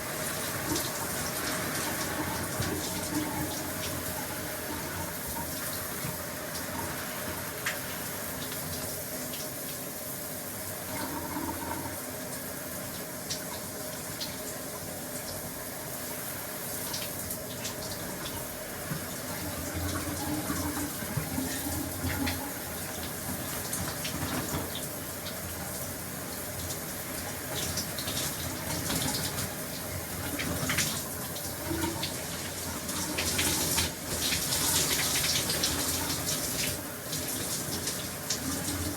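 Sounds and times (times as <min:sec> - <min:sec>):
shower spraying water: 0:00.0 - 0:38.9.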